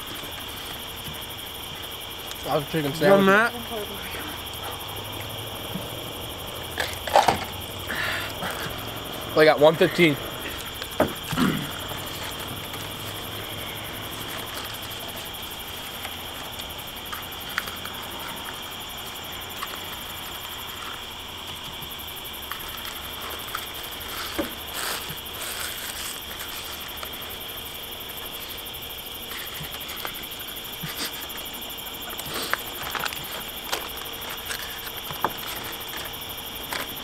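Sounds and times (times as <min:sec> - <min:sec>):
night insects chorus: 0:00.0 - 0:37.0
people eating: 0:00.0 - 0:37.0.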